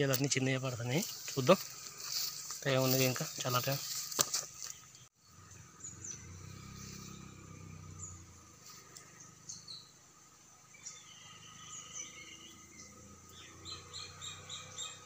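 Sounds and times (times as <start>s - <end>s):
birds chirping and whistling: 1.0s - 10.0s, 10.6s - 15.0s.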